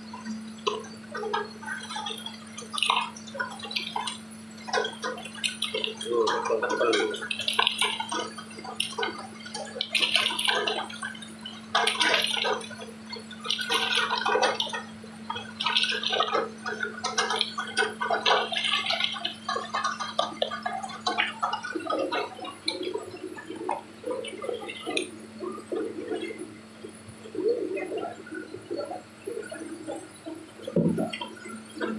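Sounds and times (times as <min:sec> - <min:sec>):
machine low hum: 0:00.0 - 0:31.9
water gurgling and splashing: 0:00.0 - 0:31.9.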